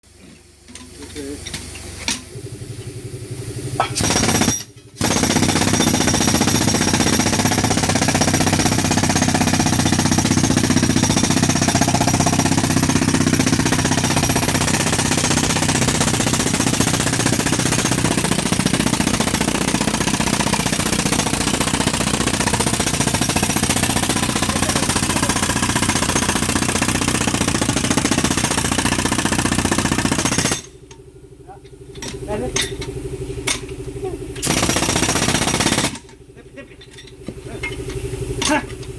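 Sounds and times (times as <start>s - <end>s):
compressor pounding chatter: 2.3s - 38.9s.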